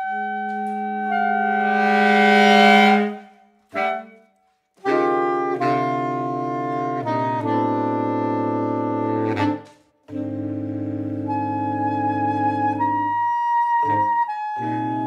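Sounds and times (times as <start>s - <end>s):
saxophone quartet playing: 0.0s - 4.2s, 4.8s - 15.0s.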